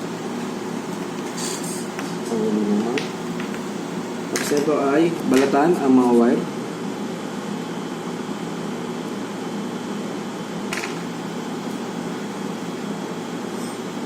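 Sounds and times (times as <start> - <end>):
ventilation whirring hum: 0.0 - 14.0.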